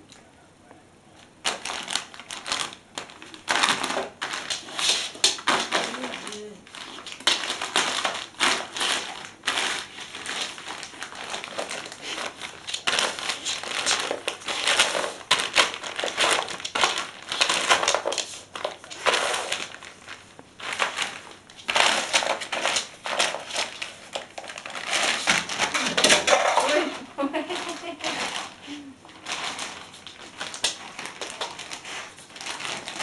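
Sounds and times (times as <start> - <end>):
plastic bag crinkling: 1.3 - 33.0.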